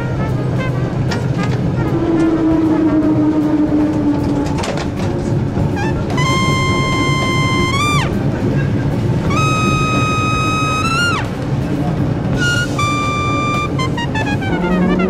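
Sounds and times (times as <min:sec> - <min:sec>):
brass music: 0:00.0 - 0:08.4, 0:09.2 - 0:11.4, 0:12.4 - 0:15.0
tram rumbling along track: 0:00.0 - 0:15.0.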